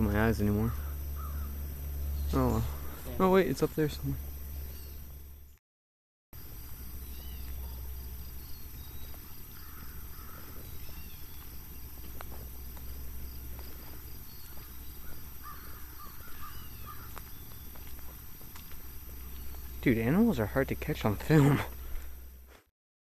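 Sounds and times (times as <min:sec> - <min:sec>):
low rumble on microphone: 0:00.0 - 0:05.5, 0:06.4 - 0:22.5
birds calling: 0:00.0 - 0:05.6, 0:06.4 - 0:22.4.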